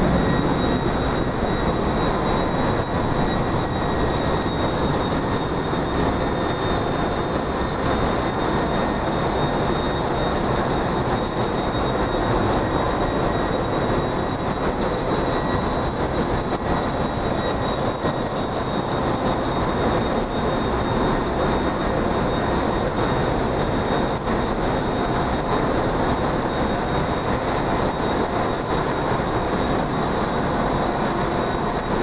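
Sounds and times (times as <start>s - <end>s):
engine room machinery din: 0.0s - 32.0s
faint steady whines: 0.0s - 32.0s.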